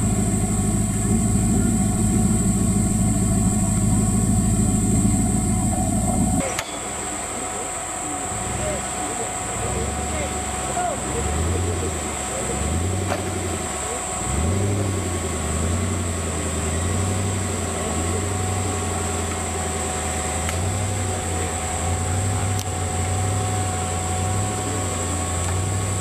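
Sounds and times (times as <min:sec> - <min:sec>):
high-pitched whine: 0:00.0 - 0:26.0
vehicle engine running: 0:00.0 - 0:26.0.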